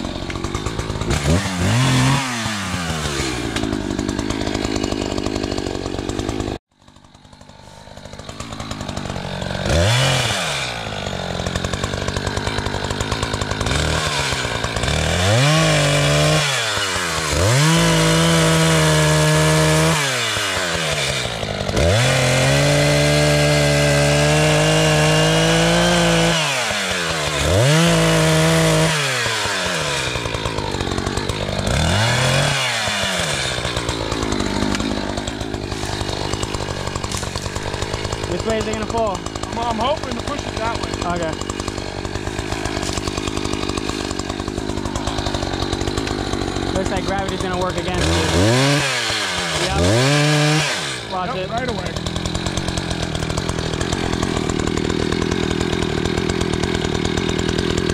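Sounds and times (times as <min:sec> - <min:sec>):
chainsaw revving and cutting: 0:00.0 - 0:57.9.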